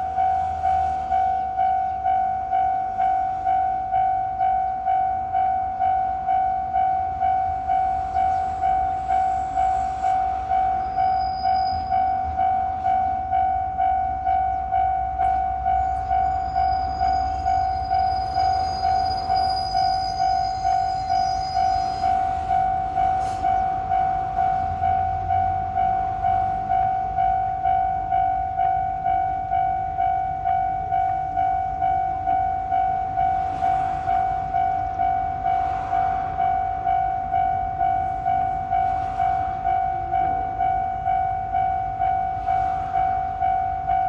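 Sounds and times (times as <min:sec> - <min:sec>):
level crossing bell ringing: 0:00.0 - 0:44.0.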